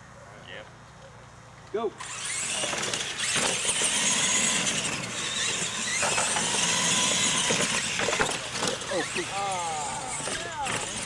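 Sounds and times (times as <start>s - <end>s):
electric motors whining: 2.0s - 11.0s
tyres rushing on dirt: 2.0s - 11.0s.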